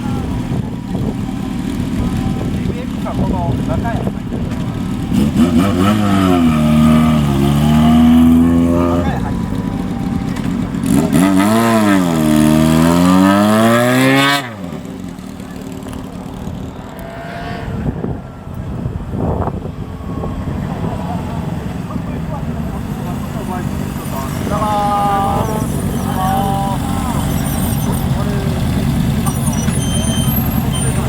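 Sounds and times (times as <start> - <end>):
motorcycle engines revving: 0.0 - 31.0
quiet engine running: 0.0 - 31.0.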